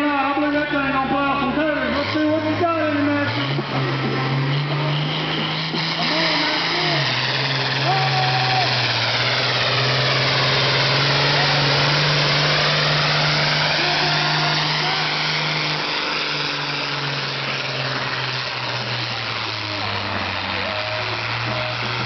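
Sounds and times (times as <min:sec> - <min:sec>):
diesel tractor engine at full load: 0:00.0 - 0:22.0.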